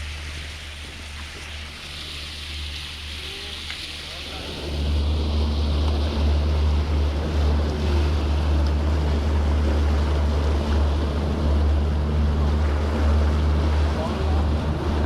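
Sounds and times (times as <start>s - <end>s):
boat engines droning: 0.0s - 15.0s
water rushing: 0.0s - 15.0s.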